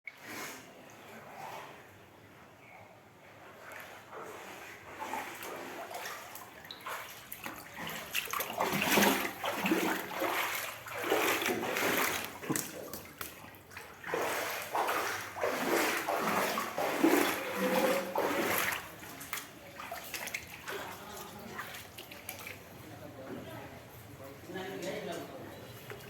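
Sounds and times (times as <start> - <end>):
water splashing and sloshing: 0.1 - 26.0.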